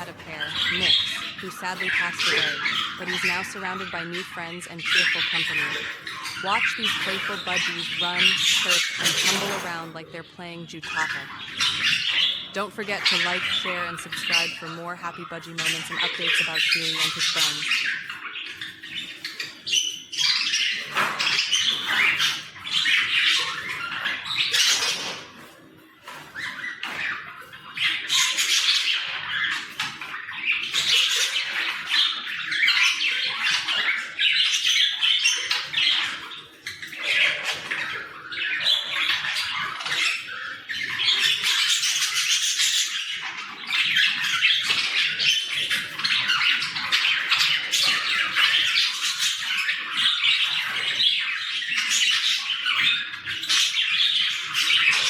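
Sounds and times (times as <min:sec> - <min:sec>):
budgerigars chattering: 0:00.0 - 0:25.4, 0:26.0 - 0:55.0.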